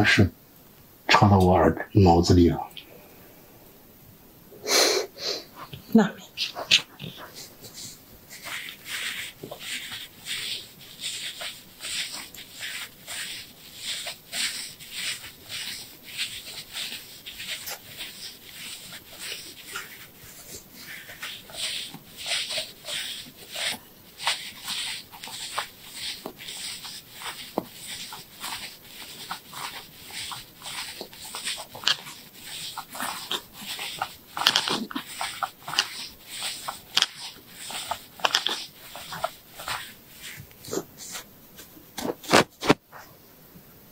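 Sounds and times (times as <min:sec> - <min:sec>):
ear pick scratching inside ear: 0:05.4 - 0:43.0.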